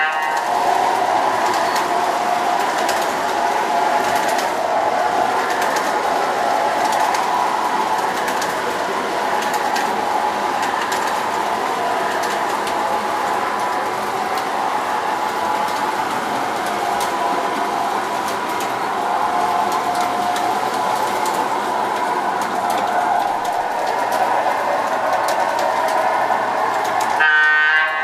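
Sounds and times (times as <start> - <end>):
toy train cars rolling on track: 0.0 - 28.0.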